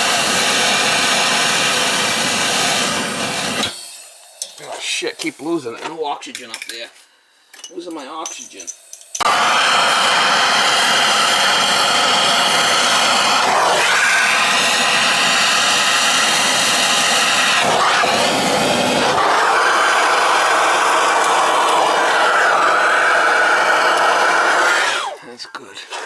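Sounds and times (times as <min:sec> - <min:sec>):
gas torch hissing: 0:00.0 - 0:05.0, 0:08.6 - 0:25.2.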